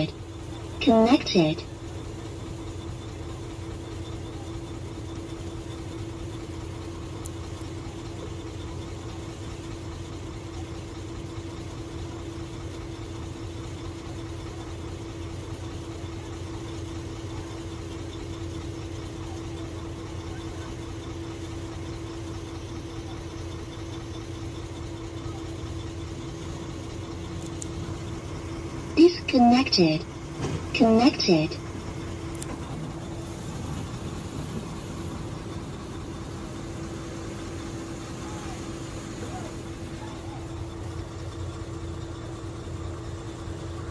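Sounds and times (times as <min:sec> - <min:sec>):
vehicle engine idling: 0:00.0 - 0:43.9.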